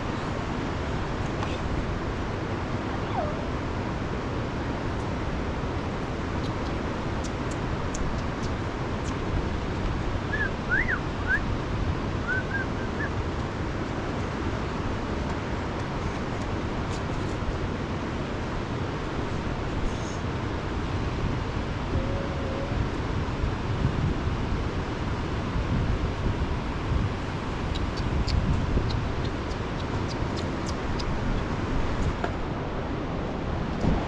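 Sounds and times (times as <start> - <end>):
river rushing: 0.0 - 34.0.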